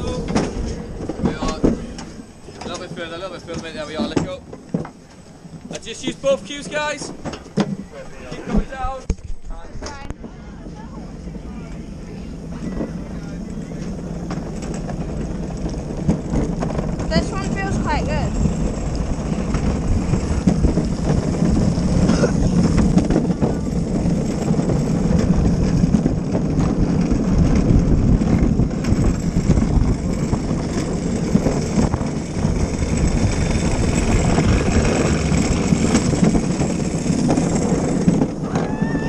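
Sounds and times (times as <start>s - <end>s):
cart wheels rolling on wet asphalt: 0.0s - 9.0s, 10.5s - 39.0s.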